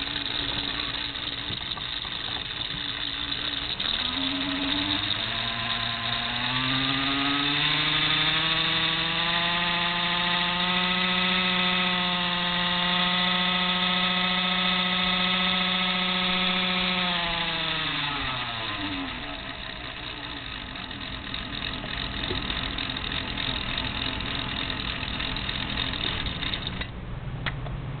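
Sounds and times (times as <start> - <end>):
small motor whirring: 0.0 - 26.9
lower rough hum: 0.0 - 28.0.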